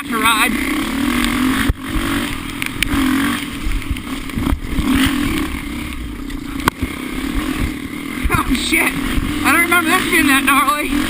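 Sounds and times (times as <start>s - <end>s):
off-road vehicle engine: 0.0s - 11.0s.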